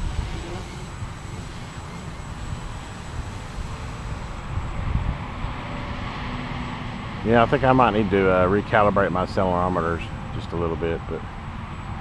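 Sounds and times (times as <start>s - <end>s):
quadcopter motors buzzing: 0.0s - 12.0s
wind rumbling on microphone: 0.0s - 12.0s.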